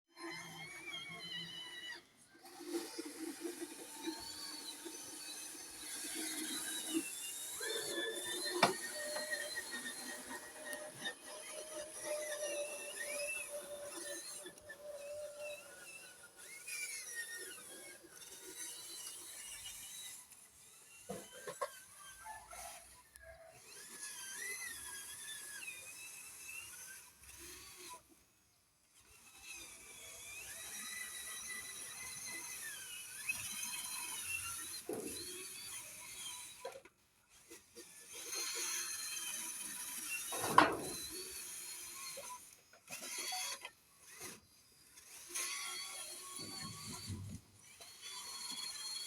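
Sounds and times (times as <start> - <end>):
small gear motors whining: 0.1 - 49.0.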